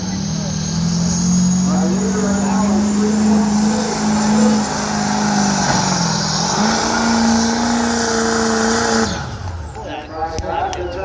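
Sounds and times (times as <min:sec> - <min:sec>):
diesel truck engine at high revs: 0:00.0 - 0:11.0.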